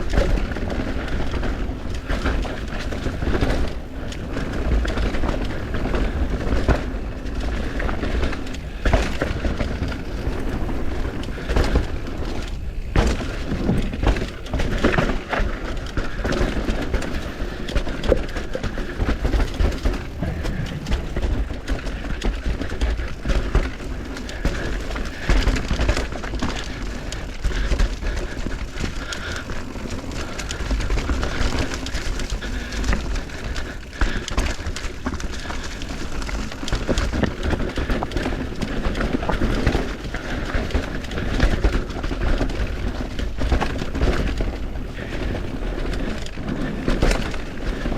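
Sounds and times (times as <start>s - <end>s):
bike rattling and knocking: 0.0s - 47.9s
bike tyres rumbling on dirt: 0.0s - 47.9s
wind noise: 0.0s - 47.9s.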